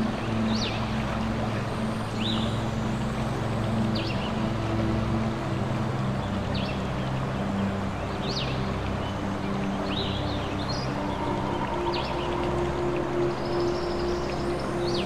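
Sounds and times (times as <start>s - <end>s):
soft ambient music: 0.0s - 15.0s.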